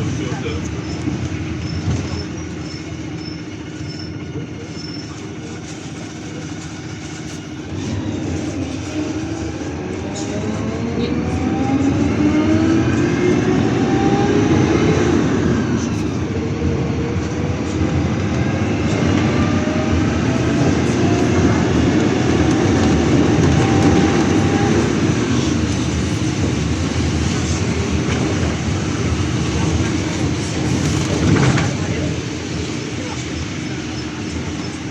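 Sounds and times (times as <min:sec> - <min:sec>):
bus road and engine rumble: 0:00.0 - 0:34.9.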